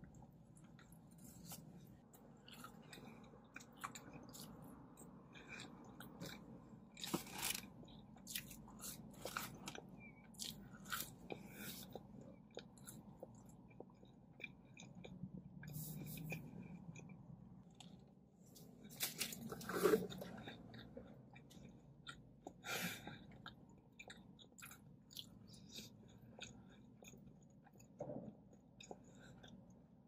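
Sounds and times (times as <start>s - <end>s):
person chewing food: 0.0s - 30.0s.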